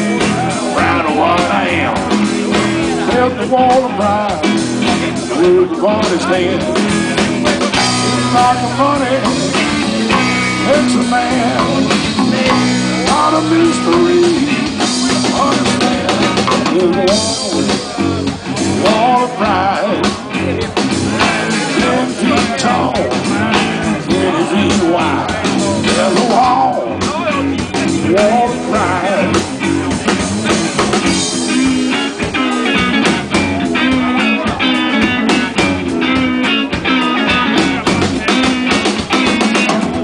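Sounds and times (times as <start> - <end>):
blues-rock band playing: 0.0 - 40.0
lead guitar bending notes: 0.0 - 40.0.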